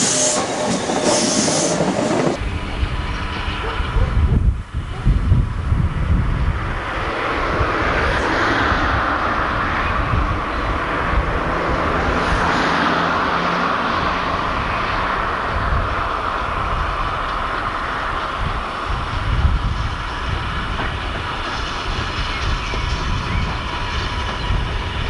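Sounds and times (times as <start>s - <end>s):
train rushing into station: 0.0s - 25.0s
wind buffeting microphone: 0.7s - 25.0s.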